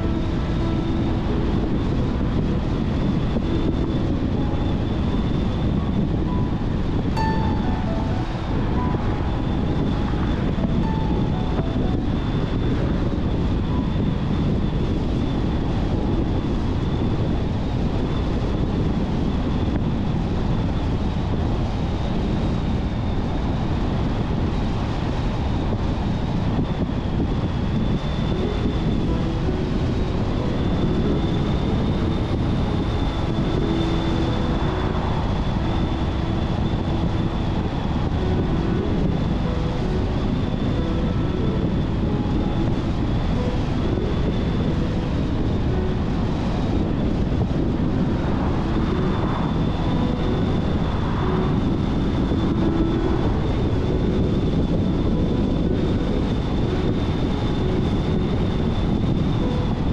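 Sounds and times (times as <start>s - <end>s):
car road and wind noise: 0.0s - 59.9s
faint high whine: 0.0s - 59.9s.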